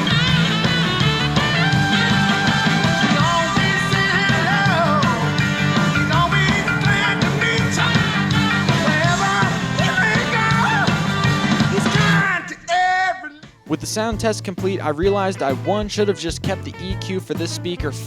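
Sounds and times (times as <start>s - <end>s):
rock song with singing: 0.0s - 18.0s.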